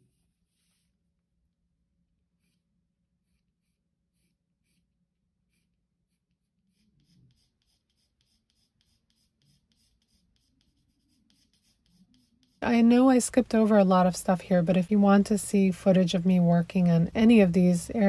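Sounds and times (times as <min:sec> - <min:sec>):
pencil scratching on paper: 0:00.0 - 0:01.0, 0:02.2 - 0:18.0.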